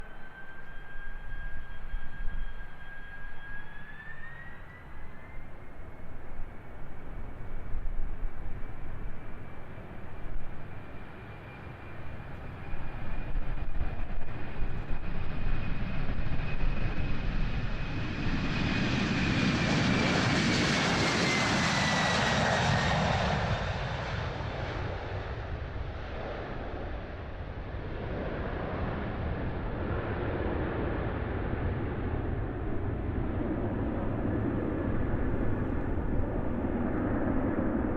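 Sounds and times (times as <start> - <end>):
jet airliner taking off: 0.0 - 37.9.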